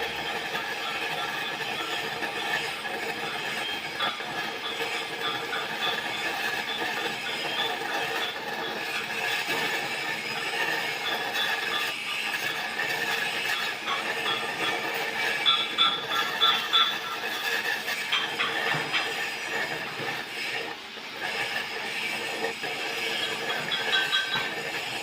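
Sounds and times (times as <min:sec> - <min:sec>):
welding arc crackling: 0:00.0 - 0:25.0.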